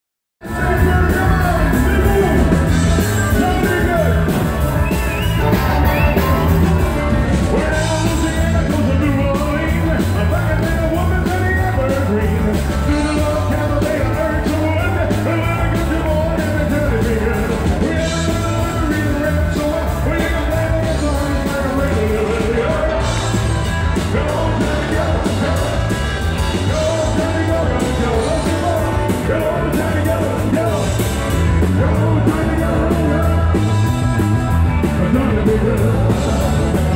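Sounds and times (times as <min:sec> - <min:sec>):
live rock band playing: 0:00.4 - 0:36.9
man singing lead: 0:00.4 - 0:36.9.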